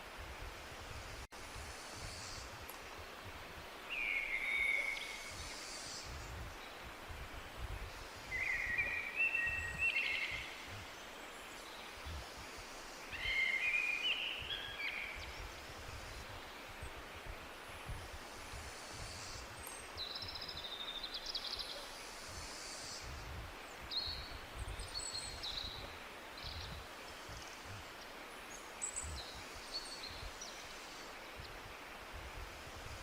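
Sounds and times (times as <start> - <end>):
forest ambience hiss: 0.0 - 33.0.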